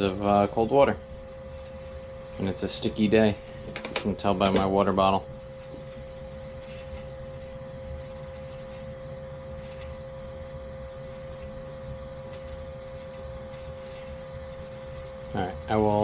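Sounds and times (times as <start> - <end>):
sampling pump humming: 0.0 - 16.0.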